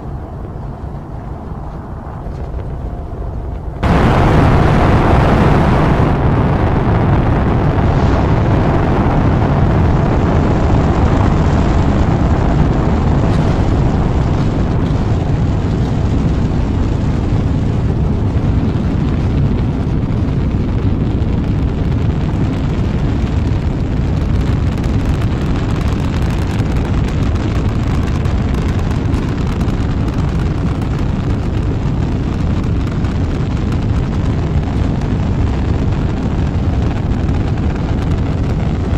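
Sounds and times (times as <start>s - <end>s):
rocket engines rumbling: 0.0s - 38.9s.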